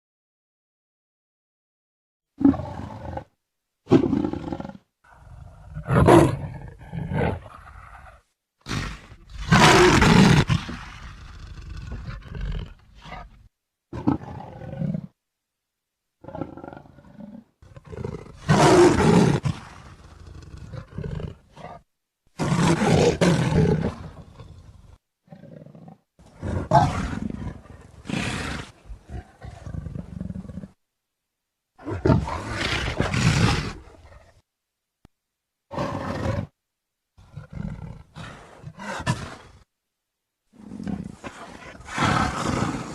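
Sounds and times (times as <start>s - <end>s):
leopard roaring and growling: 2.4s - 3.3s, 3.9s - 15.2s, 16.2s - 21.8s, 22.4s - 30.8s, 31.8s - 34.4s, 35.7s - 36.6s, 37.2s - 39.6s, 40.5s - 42.9s.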